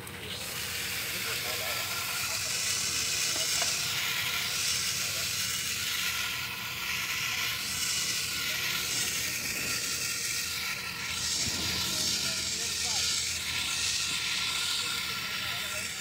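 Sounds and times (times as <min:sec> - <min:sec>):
water spraying from garden hose: 0:00.0 - 0:16.0.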